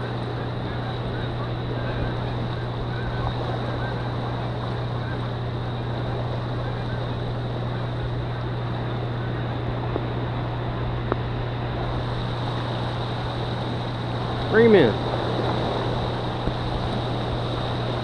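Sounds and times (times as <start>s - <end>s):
constant rushing noise: 0.0s - 18.0s
low hum: 0.0s - 18.0s.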